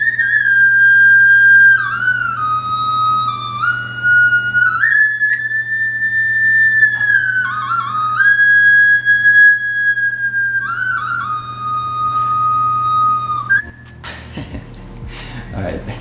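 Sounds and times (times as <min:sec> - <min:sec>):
bamboo flute through speakers: 0:00.0 - 0:14.0.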